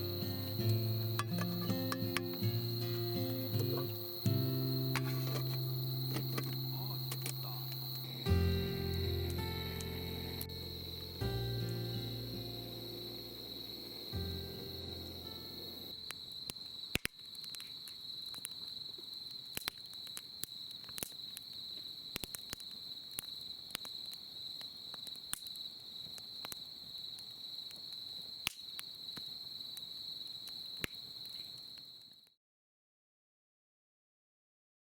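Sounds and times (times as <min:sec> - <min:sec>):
campfire crackling: 0:00.0 - 0:32.2
crickets chirping: 0:00.0 - 0:32.4.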